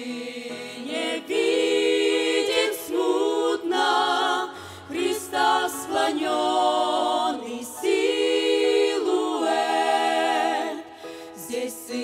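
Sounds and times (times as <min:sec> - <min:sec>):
women's choir singing a hymn: 0:00.0 - 0:12.0.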